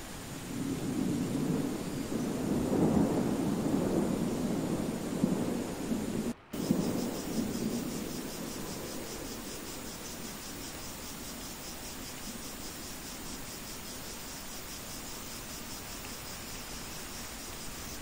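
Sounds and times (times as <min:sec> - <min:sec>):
low thunder rumble: 0:00.0 - 0:18.0
rain hissing: 0:00.0 - 0:18.0.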